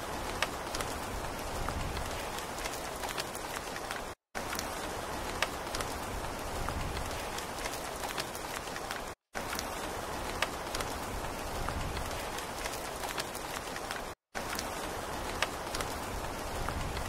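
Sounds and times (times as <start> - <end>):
raindrops ticking sharply: 0.0 - 17.0
steady rain falling: 0.0 - 17.0.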